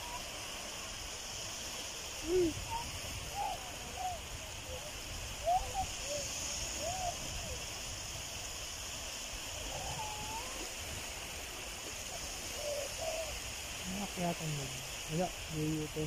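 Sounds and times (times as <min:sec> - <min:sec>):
faint rising-and-falling calls: 0:00.0 - 0:13.9
steady beach hiss: 0:00.0 - 0:16.0
wind rumbling on microphone: 0:00.0 - 0:16.0.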